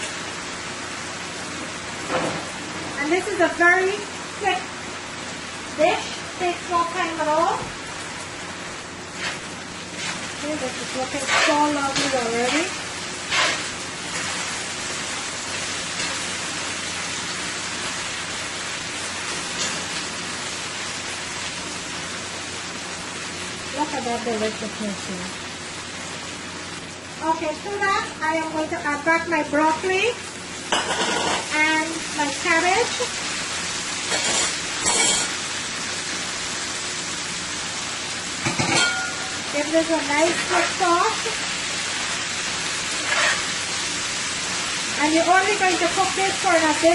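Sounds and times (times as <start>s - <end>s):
chicken sizzling in a pan: 0.0s - 46.9s.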